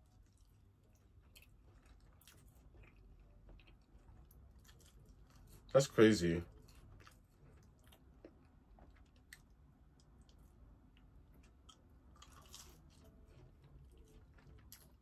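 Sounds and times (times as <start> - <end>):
faint chewing of chips: 0.0 - 15.0.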